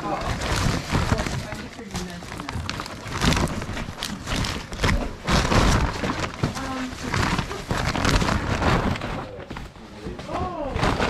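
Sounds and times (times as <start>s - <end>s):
plastic bag rustling: 0.0s - 11.0s
thuds and clatters: 0.2s - 11.0s.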